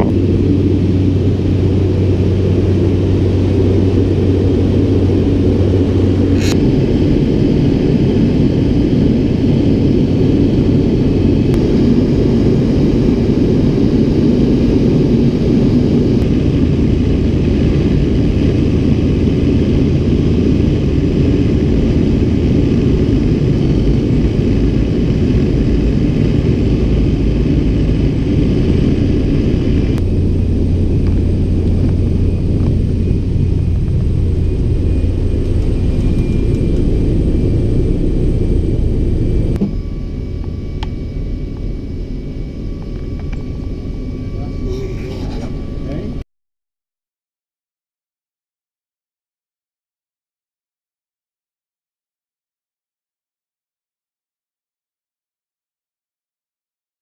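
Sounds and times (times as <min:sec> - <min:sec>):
plane engine and propeller droning: 0:00.0 - 0:46.2.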